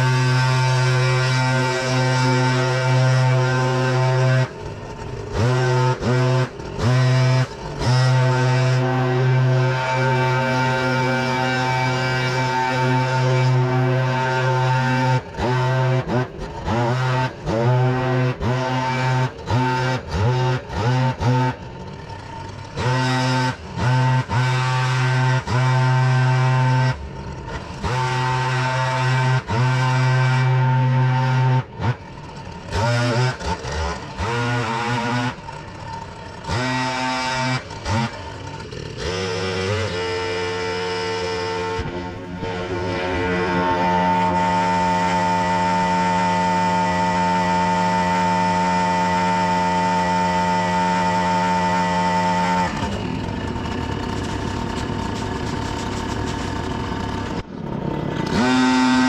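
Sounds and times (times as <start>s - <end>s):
leaf vacuum engine droning: 0.0s - 59.0s.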